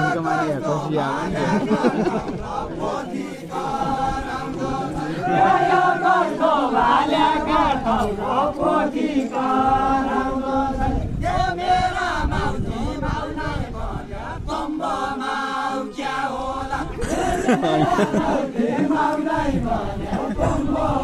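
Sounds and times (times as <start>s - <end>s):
men singing in unison: 0.0s - 21.0s.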